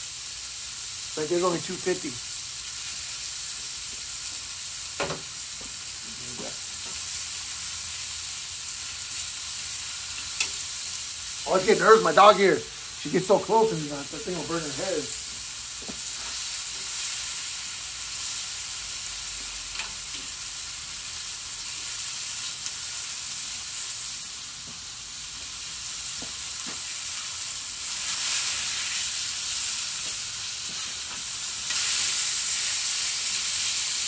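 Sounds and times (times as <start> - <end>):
steaks sizzling on a griddle: 0.0 - 34.0.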